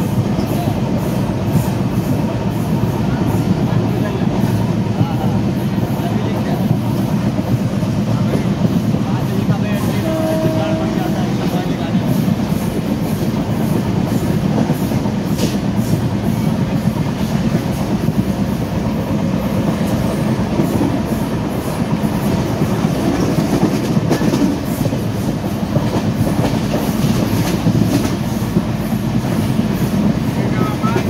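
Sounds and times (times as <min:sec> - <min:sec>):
track clickety-clack: 0:00.0 - 0:31.0
train wheels rumbling on rails: 0:00.0 - 0:31.0.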